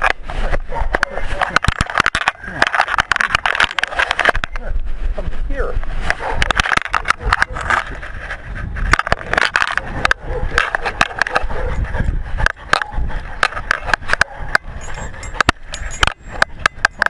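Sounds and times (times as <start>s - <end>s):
knocking and scraping: 0.0s - 4.6s, 5.9s - 17.0s
steady rubbing noise: 0.0s - 17.0s.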